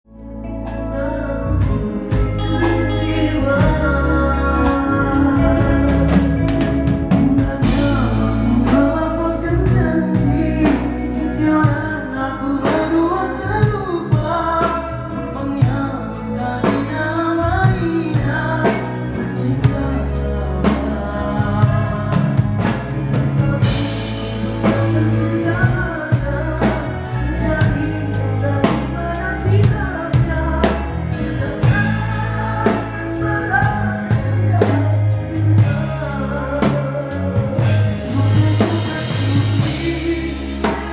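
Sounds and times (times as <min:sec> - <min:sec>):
person singing: 0:00.1 - 0:40.9
rock band playing: 0:00.1 - 0:40.9.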